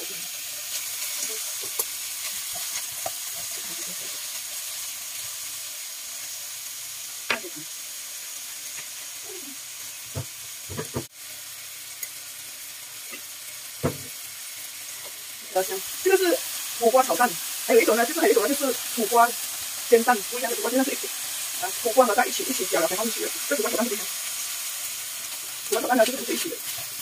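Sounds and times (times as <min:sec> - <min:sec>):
vegetables sizzling in a wok: 0:00.0 - 0:27.0.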